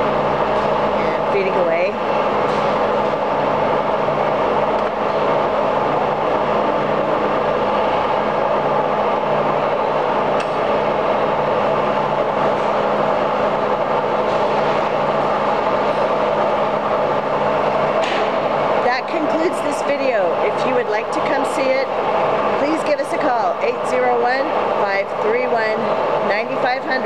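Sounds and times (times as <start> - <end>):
lathe motor humming: 0.0 - 27.0.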